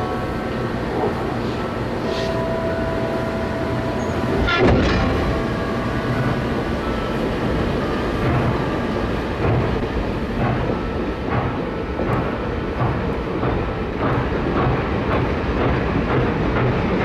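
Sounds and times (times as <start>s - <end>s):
train rumbling: 0.0s - 17.0s
sharp train clatter: 3.4s - 17.0s.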